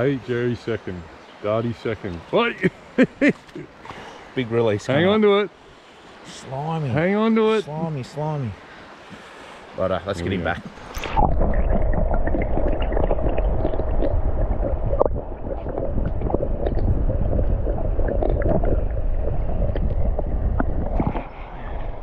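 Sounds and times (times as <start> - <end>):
muffled underwater river rushing: 2.1 - 22.0.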